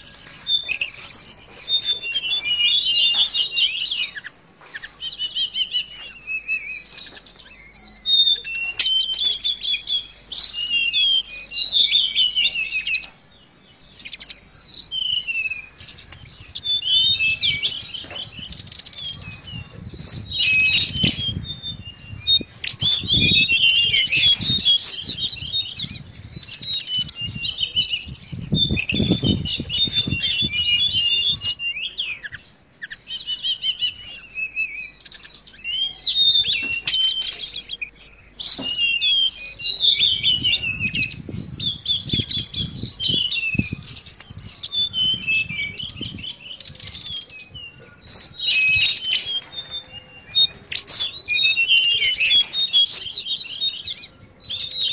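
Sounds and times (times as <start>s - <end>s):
bird twittering song: 0.0s - 54.9s.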